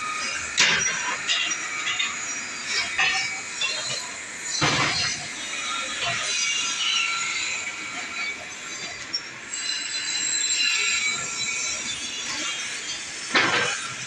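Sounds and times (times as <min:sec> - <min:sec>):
drill bit squealing: 0:00.1 - 0:14.0.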